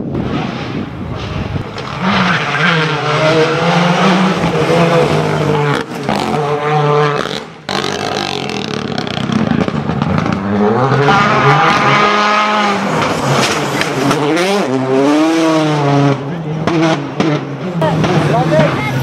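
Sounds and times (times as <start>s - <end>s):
rally cars at full throttle: 0.0s - 19.0s.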